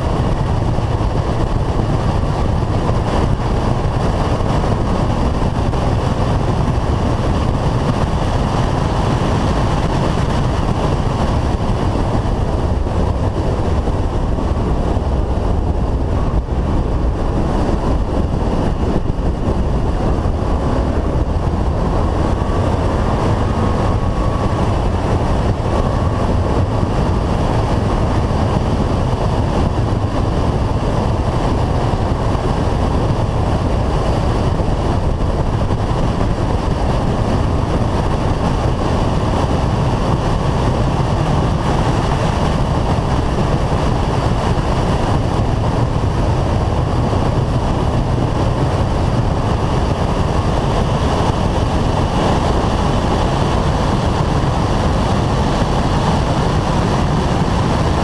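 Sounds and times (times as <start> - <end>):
car engine running hard: 0.0 - 58.0
wind rush on microphone: 0.0 - 58.0.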